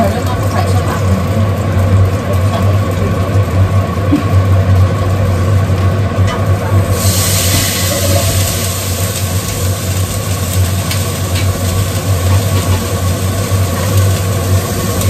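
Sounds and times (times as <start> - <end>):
food sizzling in hot oil: 0.0 - 15.0
kitchen extractor fan humming: 0.0 - 15.0.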